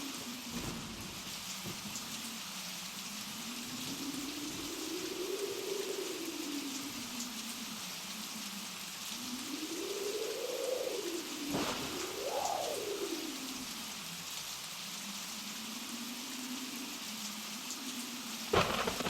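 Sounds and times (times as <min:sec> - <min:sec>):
blizzard wind howling: 0:00.0 - 0:19.0.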